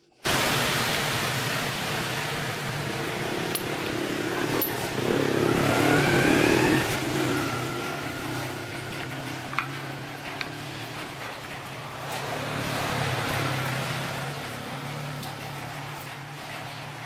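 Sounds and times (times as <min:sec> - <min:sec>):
rising engine whine: 0:00.3 - 0:16.3
vehicle engine running: 0:00.3 - 0:17.0.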